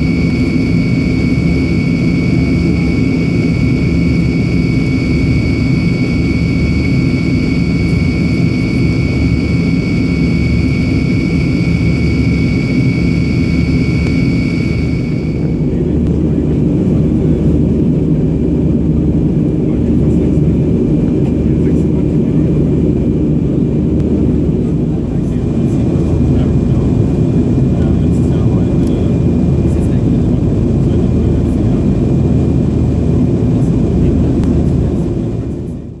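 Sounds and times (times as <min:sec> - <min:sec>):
high whine: 0:00.0 - 0:36.0
jet engine rumble in cabin: 0:00.0 - 0:36.0.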